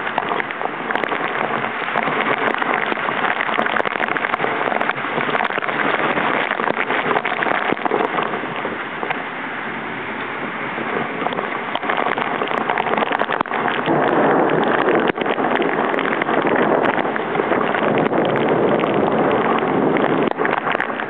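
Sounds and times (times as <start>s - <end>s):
heavy rain beating down: 0.0s - 21.0s
raindrops ticking: 0.0s - 21.0s.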